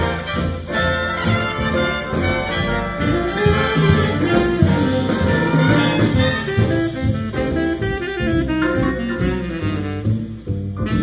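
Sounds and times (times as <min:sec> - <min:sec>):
big band jazz through speakers: 0:00.0 - 0:11.0.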